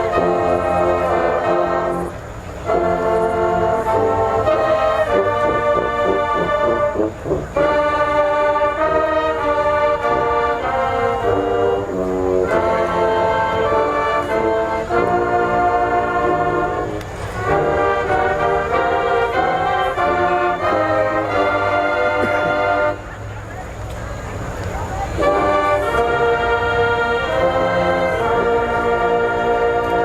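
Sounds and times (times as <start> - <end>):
marching band brass playing: 0.0 - 23.5, 24.1 - 30.0.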